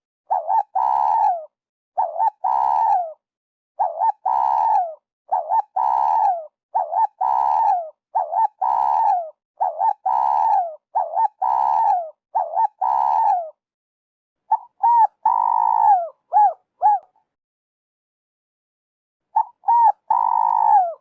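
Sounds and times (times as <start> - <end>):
dove cooing: 0.3 - 3.2, 3.8 - 13.6, 14.5 - 17.2, 19.3 - 21.0.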